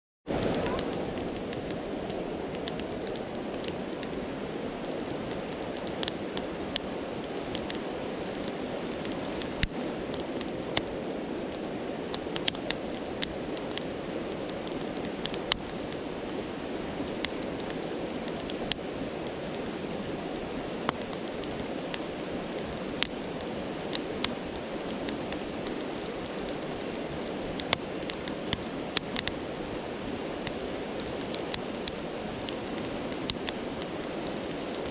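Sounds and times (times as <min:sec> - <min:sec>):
campfire crackling and popping: 0:00.3 - 0:34.9
flowing stream: 0:00.3 - 0:34.9.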